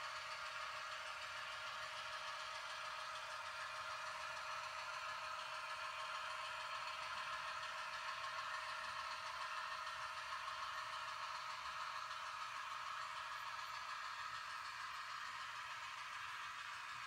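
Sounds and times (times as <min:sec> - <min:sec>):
model locomotive engine drone: 0:00.0 - 0:17.0.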